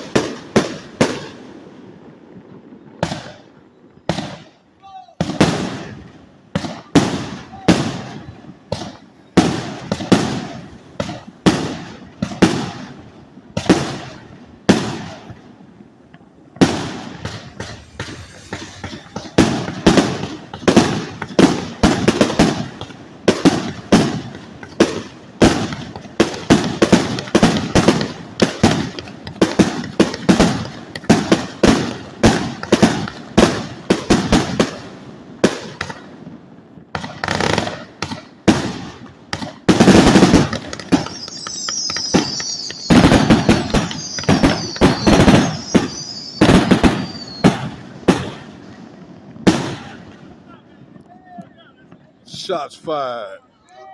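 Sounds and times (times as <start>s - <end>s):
fireworks firing sharp reports: 0.0s - 53.4s.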